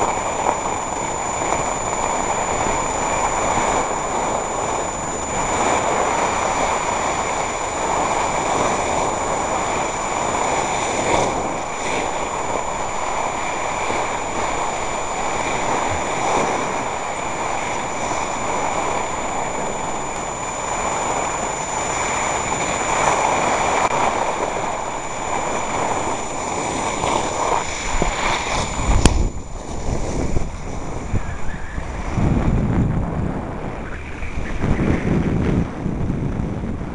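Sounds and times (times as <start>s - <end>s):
skis sliding on snow: 0.0s - 31.0s
wind on microphone: 0.0s - 36.9s.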